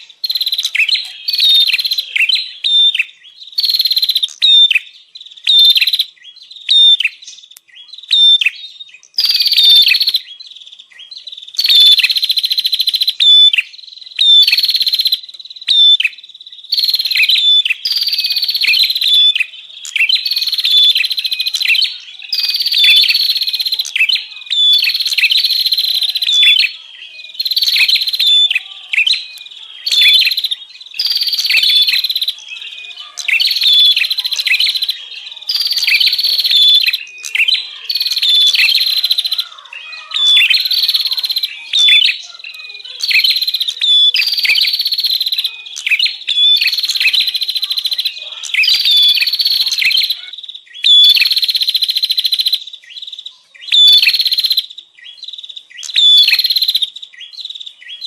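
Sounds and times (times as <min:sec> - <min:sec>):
bird chattering calls: 0:00.0 - 0:07.4, 0:11.3 - 0:58.0.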